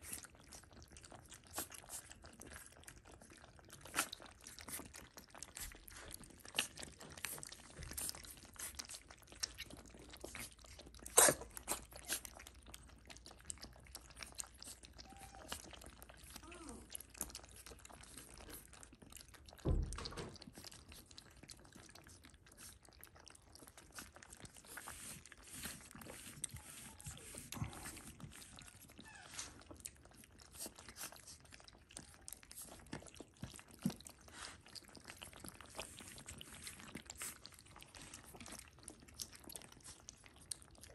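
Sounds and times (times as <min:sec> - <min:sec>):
puppies lapping and chewing food: 0:00.0 - 0:40.9.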